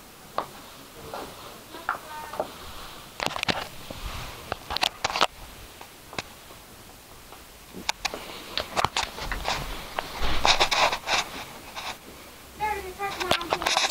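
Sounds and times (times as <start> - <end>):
rustling: 0.0 - 13.9.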